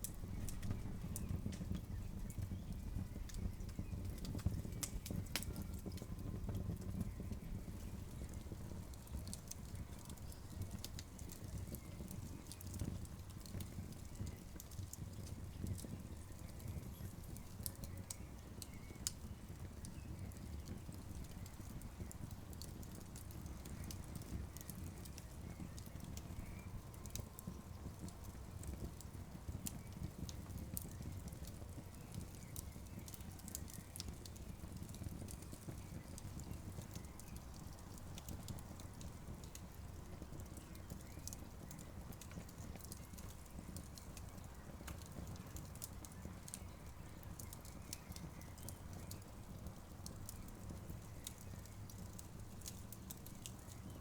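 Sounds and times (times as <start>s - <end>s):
burning wood popping: 0.0s - 54.0s
campfire crackling: 0.0s - 54.0s.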